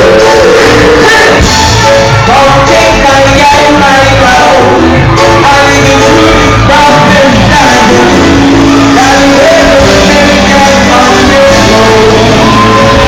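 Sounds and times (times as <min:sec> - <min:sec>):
live band playing: 0:00.0 - 0:13.0
voices singing and shouting: 0:00.0 - 0:13.0.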